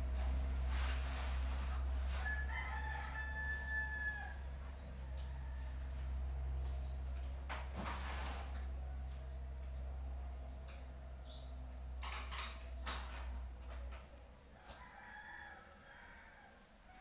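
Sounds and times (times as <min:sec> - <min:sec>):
birds chirping: 0:00.0 - 0:14.4
steady low hum: 0:00.0 - 0:14.6.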